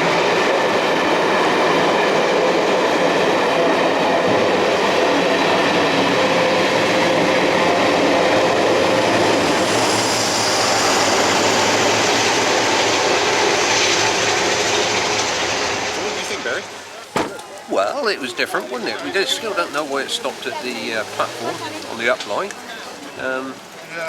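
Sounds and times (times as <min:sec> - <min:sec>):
train wheels on rails: 0:00.0 - 0:22.6.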